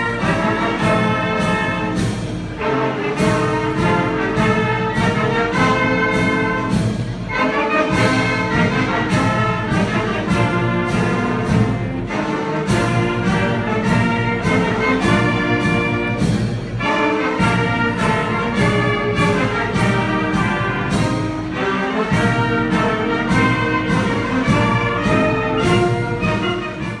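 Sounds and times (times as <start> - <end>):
orchestral brass march: 0.0 - 27.0.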